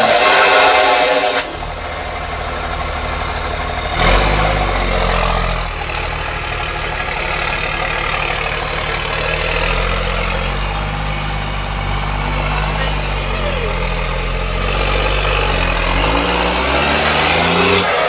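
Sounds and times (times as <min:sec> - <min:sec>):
loud engine burst: 0:00.0 - 0:18.0
vehicle engines idling: 0:00.0 - 0:18.0.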